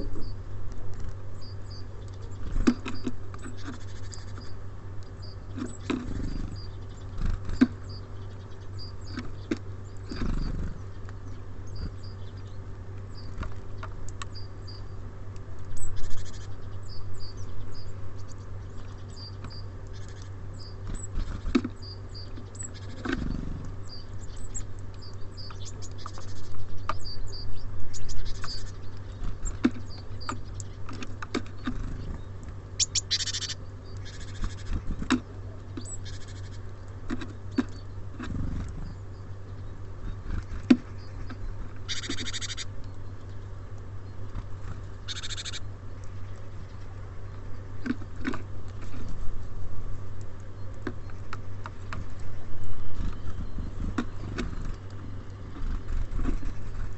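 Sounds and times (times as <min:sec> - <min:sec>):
birds pecking on wooden feeder: 0:00.0 - 0:56.9
low hum: 0:00.0 - 0:56.9
songbirds chirping: 0:00.0 - 0:56.9.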